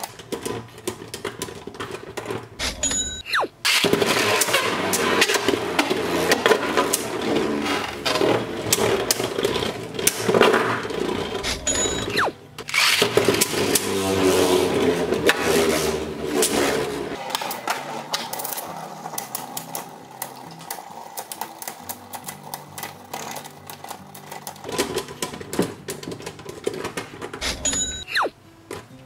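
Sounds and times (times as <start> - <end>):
spinning tops scraping whir: 0.0 - 28.4
spinning tops clashing clicks: 0.0 - 28.8.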